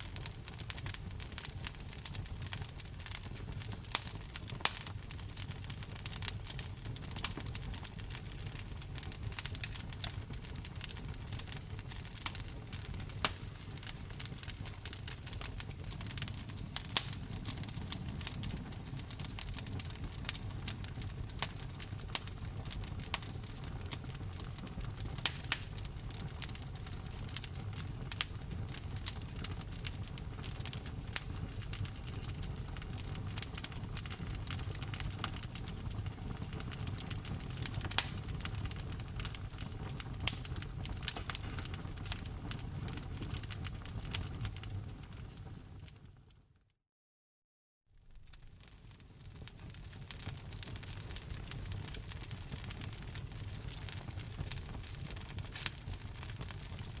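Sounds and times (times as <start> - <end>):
wood fire crackling: 0.0 - 46.2, 48.0 - 57.0.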